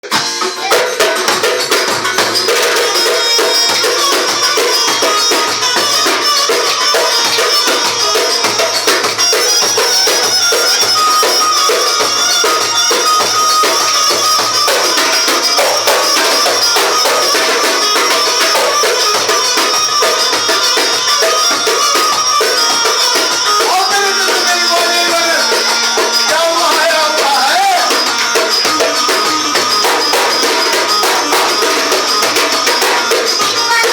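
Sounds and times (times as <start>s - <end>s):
hand percussion rhythm: 0.0s - 33.9s
sliding melody line: 0.0s - 33.9s.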